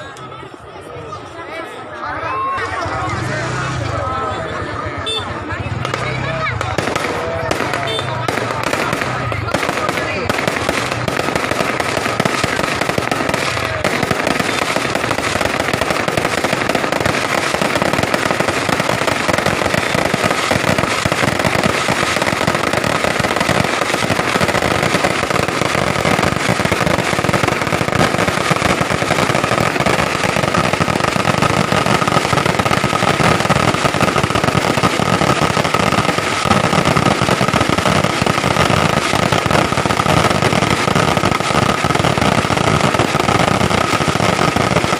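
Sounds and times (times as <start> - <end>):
firecrackers crackling: 0.0 - 44.9.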